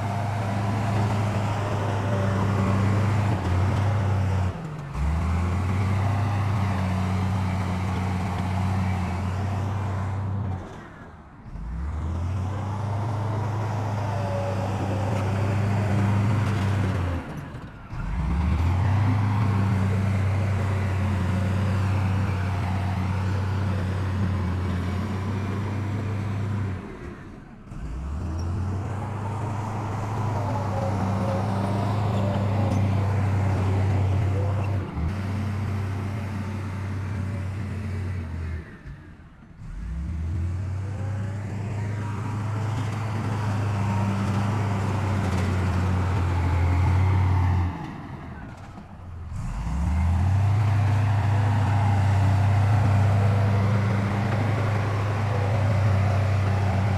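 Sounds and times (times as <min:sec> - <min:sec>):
heavy diesel engines running: 0:00.0 - 0:56.9.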